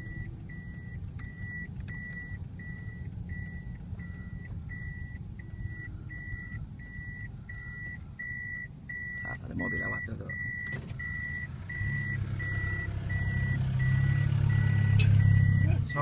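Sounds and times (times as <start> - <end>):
car engine and road rumble: 0.0 - 16.0
reverse warning beeps: 0.0 - 16.0.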